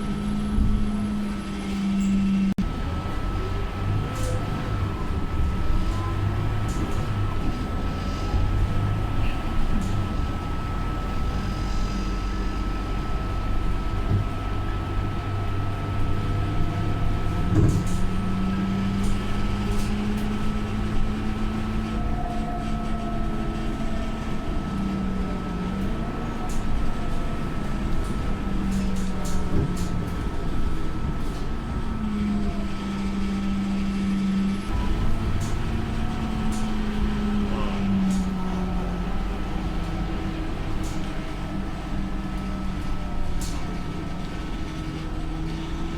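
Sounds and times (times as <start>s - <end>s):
bus diesel engine rumble: 0.0s - 45.9s.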